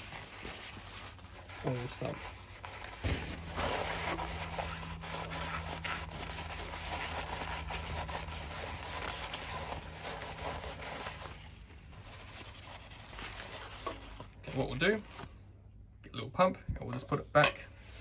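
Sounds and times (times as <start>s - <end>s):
paper towel crinkling against metal: 0.0s - 15.5s.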